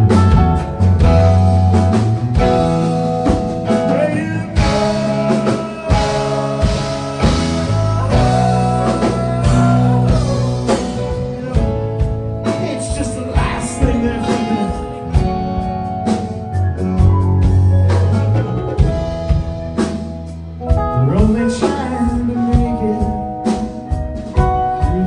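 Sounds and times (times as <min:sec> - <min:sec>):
rock band instrumental: 0:00.0 - 0:25.0.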